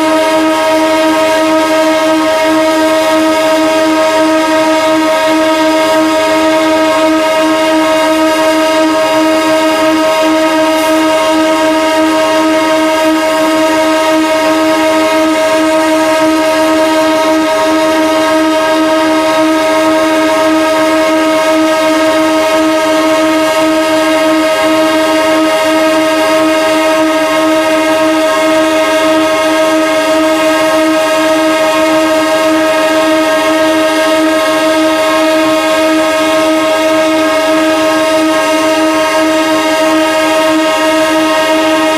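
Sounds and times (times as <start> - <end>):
locomotive horn long blast: 0.0 - 41.9.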